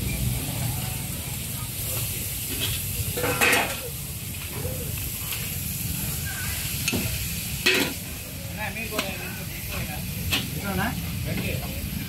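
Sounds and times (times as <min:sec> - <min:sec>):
noodles sizzling in a wok: 0:00.0 - 0:12.0.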